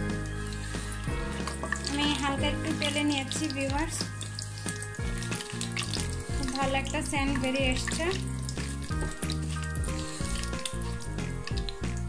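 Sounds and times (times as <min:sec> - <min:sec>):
background music: 0:00.0 - 0:12.0
spices sizzling in hot oil: 0:00.0 - 0:12.0.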